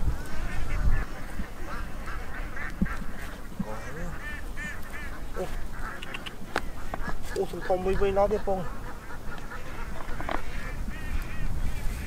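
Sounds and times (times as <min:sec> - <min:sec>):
chorus of nasal animal calls: 0:00.0 - 0:12.0.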